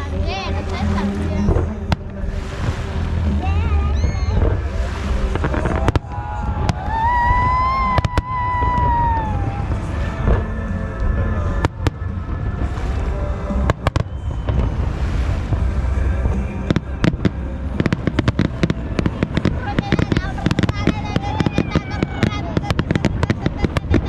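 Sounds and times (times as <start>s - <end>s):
fireworks crackling: 0.0s - 24.0s
music playing: 0.0s - 24.0s
fireworks bangs: 0.6s - 24.0s.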